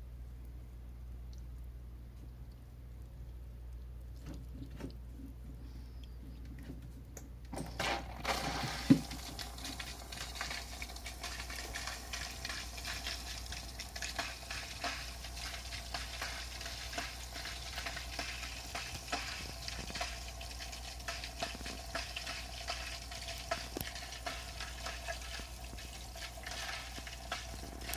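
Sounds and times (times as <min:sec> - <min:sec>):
aquarium filter sputtering air bubbles: 0:01.0 - 0:27.9.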